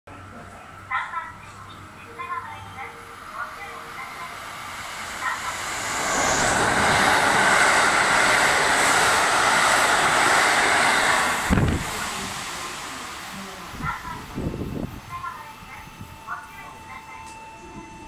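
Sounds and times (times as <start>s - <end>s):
train passing at high speed: 0.8s - 16.9s.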